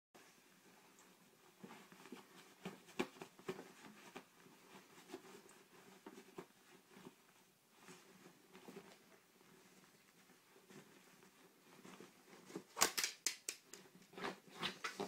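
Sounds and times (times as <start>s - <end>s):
puppy scratching at blanket: 0.6s - 12.7s.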